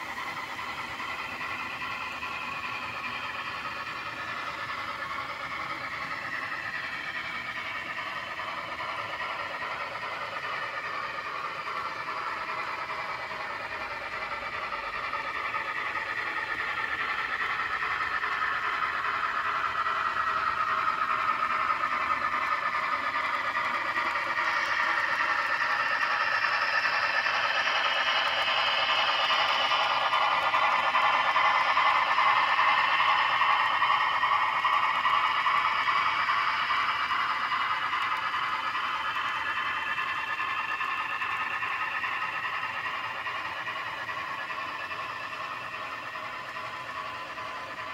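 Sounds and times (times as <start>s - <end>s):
model train motor whirring: 0.0s - 47.9s.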